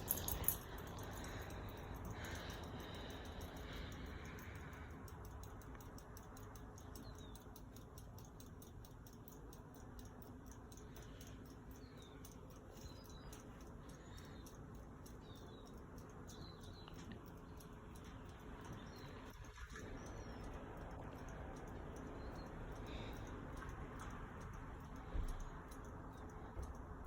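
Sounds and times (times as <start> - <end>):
ceiling fan humming and ticking: 0.0 - 27.0
small birds chirping: 0.0 - 27.0.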